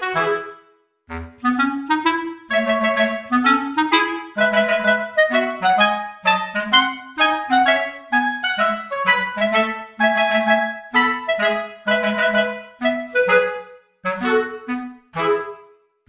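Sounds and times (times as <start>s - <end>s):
lively reedy wind instrument tune: 0.0s - 16.0s.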